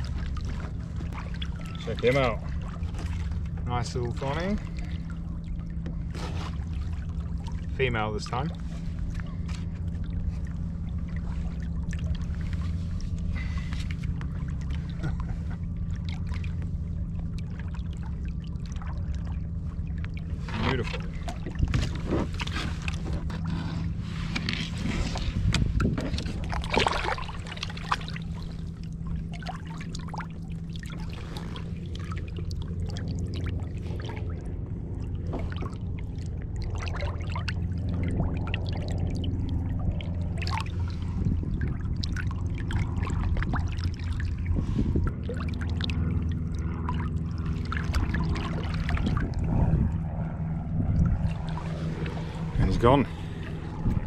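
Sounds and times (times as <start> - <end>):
sharp splashes and knocks: 0.0 - 7.8, 8.5 - 23.5, 24.2 - 52.5
steady low rumble: 0.0 - 54.0
water lapping against a kayak: 0.0 - 54.0.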